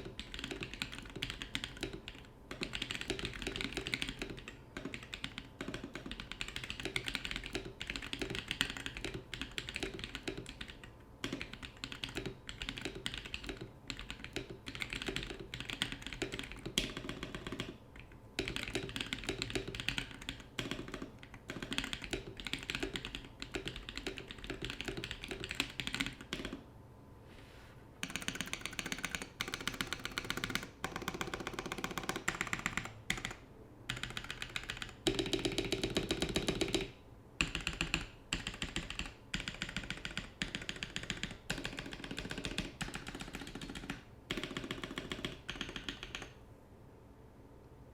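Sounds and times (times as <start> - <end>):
mechanical keyboard typing: 0.0 - 26.6, 28.0 - 46.4.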